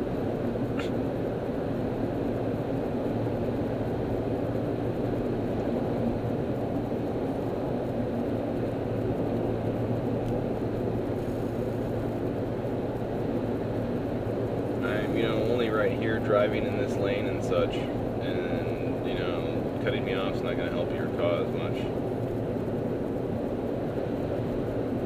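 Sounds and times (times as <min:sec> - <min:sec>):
car engine and road noise drone: 0:00.0 - 0:25.0.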